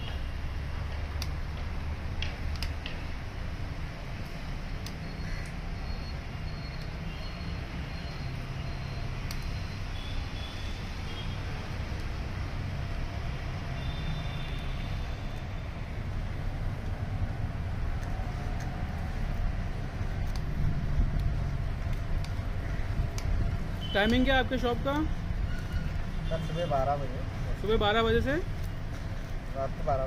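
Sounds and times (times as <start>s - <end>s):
low rumble of street traffic: 0.0s - 30.0s.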